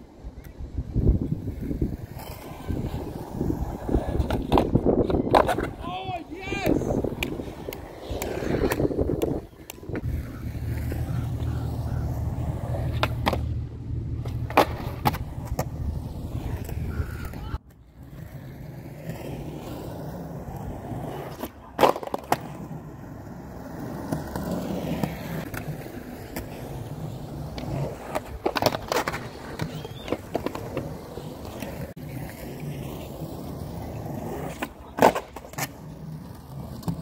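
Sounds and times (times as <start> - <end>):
skateboard wheels rolling on concrete: 0.0 - 37.0
skateboard clacking on concrete: 1.6 - 13.6, 14.2 - 37.0.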